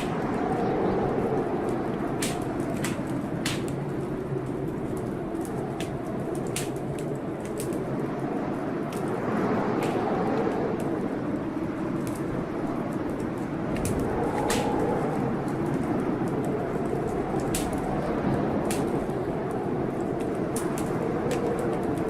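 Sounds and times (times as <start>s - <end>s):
howling blizzard wind: 0.0s - 22.0s
wood fire crackling: 0.0s - 22.0s.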